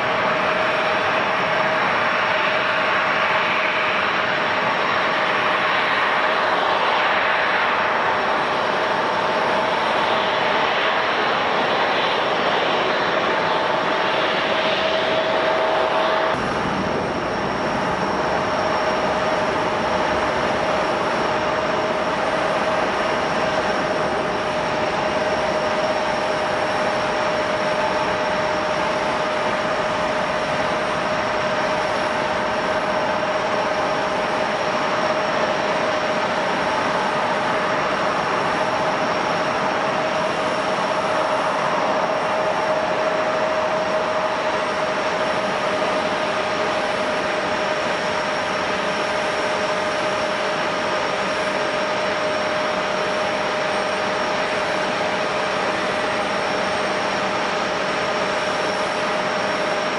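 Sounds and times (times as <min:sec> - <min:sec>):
airliner engines whining: 0:00.0 - 0:59.9.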